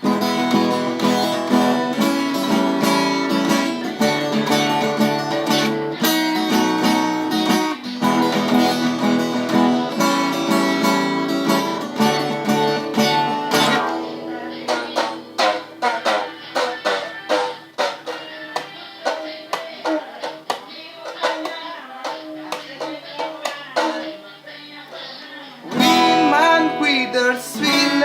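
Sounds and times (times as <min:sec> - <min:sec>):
acoustic guitar blues: 0:00.0 - 0:28.0.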